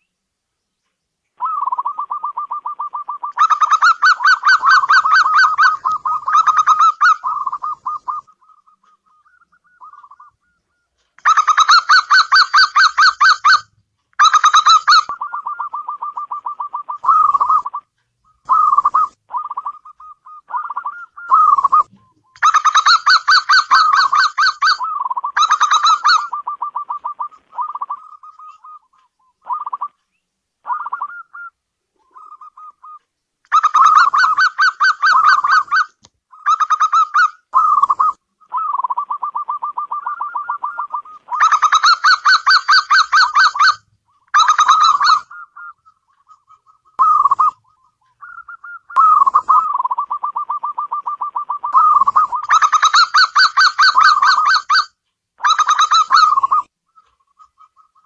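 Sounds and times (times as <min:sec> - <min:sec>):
dove cooing: 0:01.4 - 0:30.0, 0:30.6 - 0:43.8, 0:44.4 - 0:54.8, 0:55.4 - 0:58.0.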